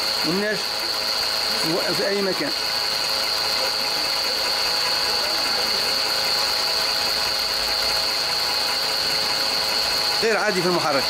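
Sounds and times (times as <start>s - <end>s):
car engine running: 0.0s - 11.0s
fast mechanical ticking: 0.0s - 11.0s
high-pitched whine: 0.0s - 11.0s.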